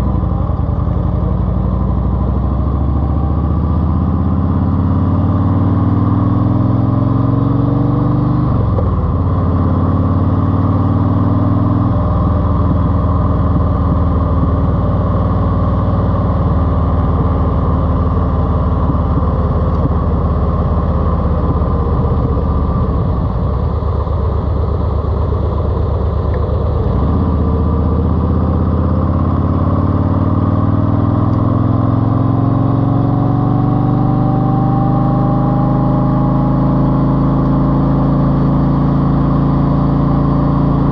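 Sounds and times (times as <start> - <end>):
car engine revving: 1.7 - 40.9.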